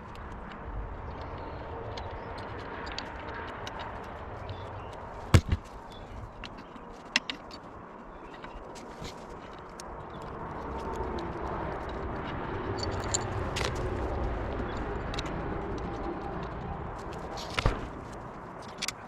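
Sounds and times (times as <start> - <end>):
hand tools clicking and knocking: 1.2 - 12.0, 12.6 - 19.0.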